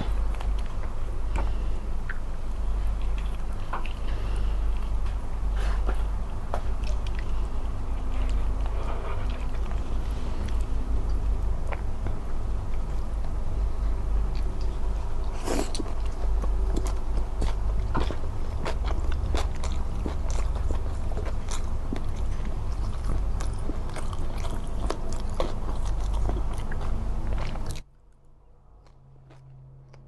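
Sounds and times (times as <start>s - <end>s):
person chewing food: 0.0s - 27.9s, 28.8s - 30.0s
low rumble: 0.0s - 29.9s.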